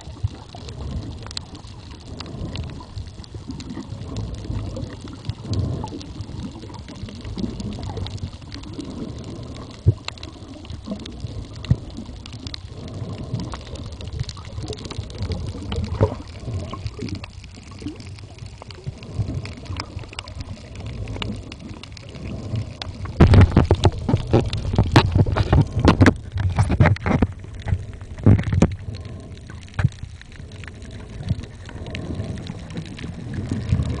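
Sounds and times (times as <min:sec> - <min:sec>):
crackling clicks: 0:00.0 - 0:34.0
rushing water: 0:00.0 - 0:34.0
underwater rumble of moving water: 0:00.0 - 0:34.0.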